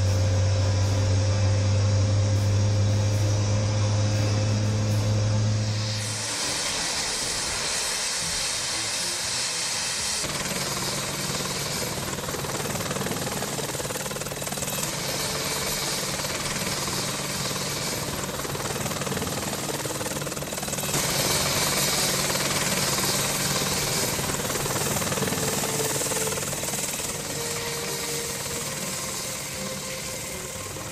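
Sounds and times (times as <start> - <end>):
helicopter rotor and engine noise: 0.0 - 30.9.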